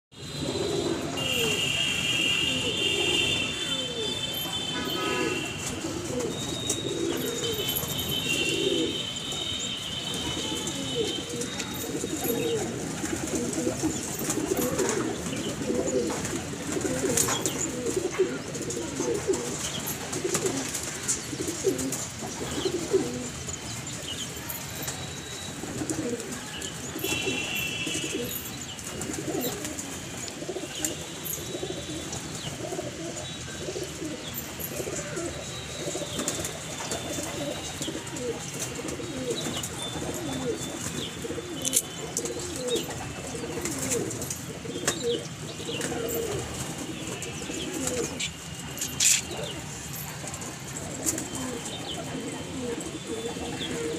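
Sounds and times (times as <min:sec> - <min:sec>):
pigeons cooing: 0:00.3 - 0:24.0, 0:25.5 - 0:53.9.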